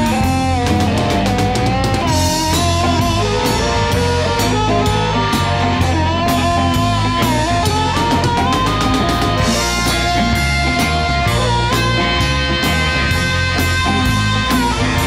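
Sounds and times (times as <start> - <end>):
electric blues band playing: 0.0 - 15.0
lead guitar bending notes: 0.0 - 15.0.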